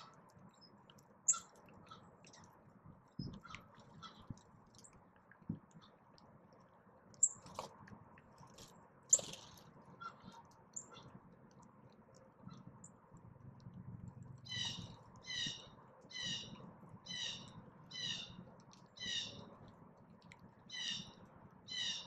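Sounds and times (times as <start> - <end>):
birds pecking at seed: 0.0 - 22.0.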